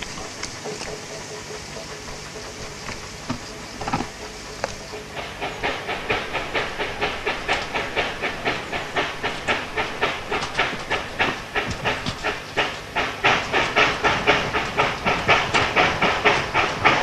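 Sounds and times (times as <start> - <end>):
steam engine exhaust chuffing: 0.0 - 17.0
steam hissing: 0.0 - 17.0.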